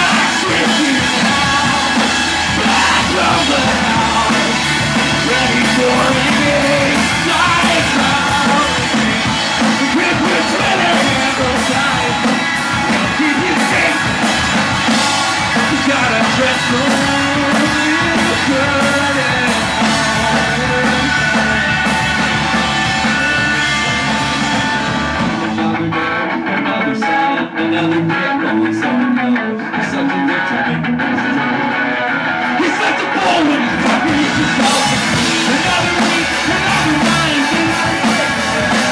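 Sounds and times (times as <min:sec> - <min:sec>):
drums: 0:00.0 - 0:38.9
electric guitars: 0:00.0 - 0:38.9
person singing: 0:00.0 - 0:38.9.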